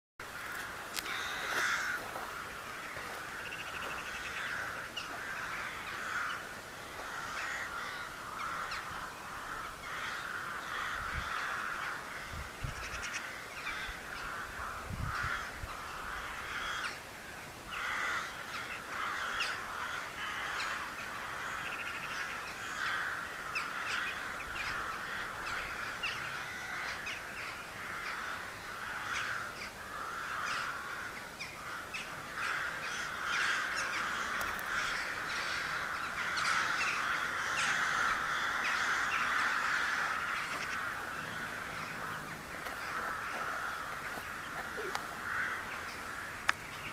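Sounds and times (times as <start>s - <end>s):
flock of birds calling: 0.2s - 46.9s.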